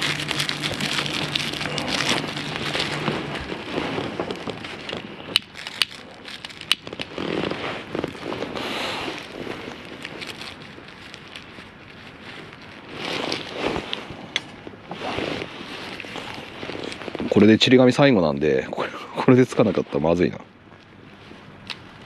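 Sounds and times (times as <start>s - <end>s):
small fire crackling: 0.0s - 18.3s.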